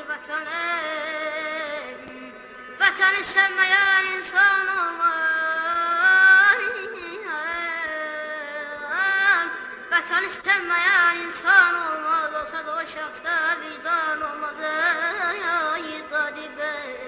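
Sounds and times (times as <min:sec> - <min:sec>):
music: 0:00.0 - 0:17.0.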